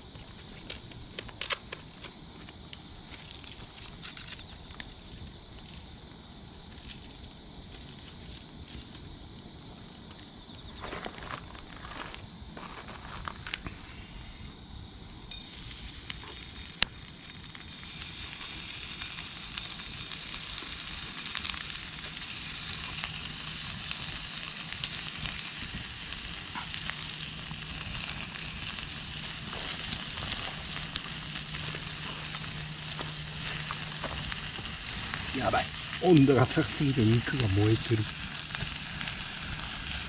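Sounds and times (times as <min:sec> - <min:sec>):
fire crackling and popping: 0:00.0 - 0:14.0, 0:14.9 - 0:40.0
meat sizzling over fire: 0:00.0 - 0:40.0.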